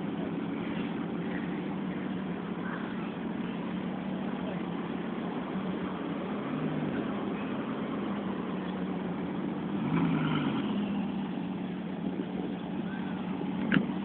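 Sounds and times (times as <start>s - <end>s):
car engine low hum: 0.0s - 14.0s.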